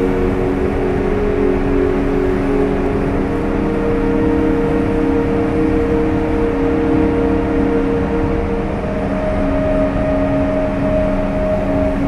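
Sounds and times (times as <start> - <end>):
low multi-tone hum: 0.0 - 12.0.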